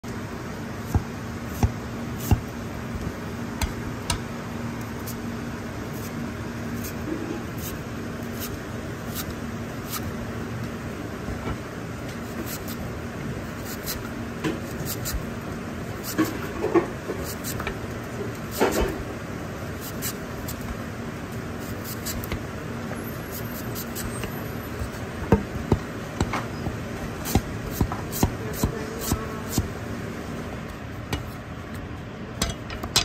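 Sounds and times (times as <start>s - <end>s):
kitchen hum: 0.0s - 33.0s.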